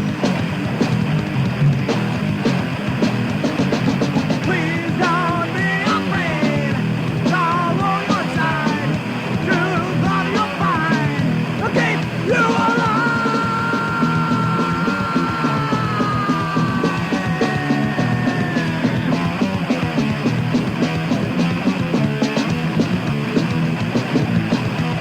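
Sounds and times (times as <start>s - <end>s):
bending lead guitar line: 0.0s - 25.0s
thrash metal band playing: 0.0s - 25.0s.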